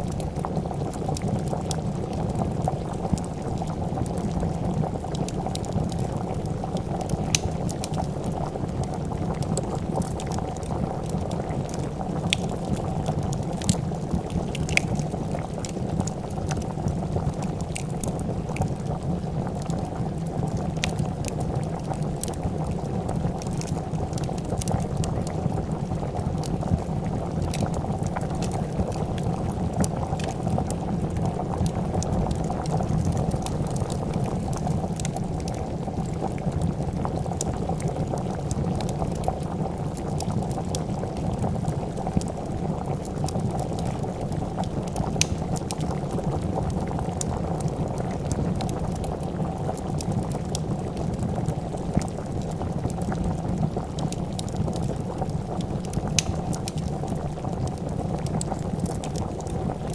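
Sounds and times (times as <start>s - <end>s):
soup bubbling at a boil: 0.0s - 59.9s
wood fire crackling: 0.0s - 59.9s.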